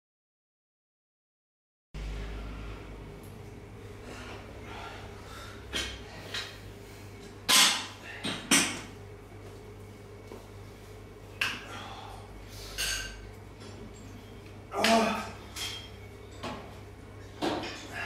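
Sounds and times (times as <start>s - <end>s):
steady low hum: 2.0s - 18.0s.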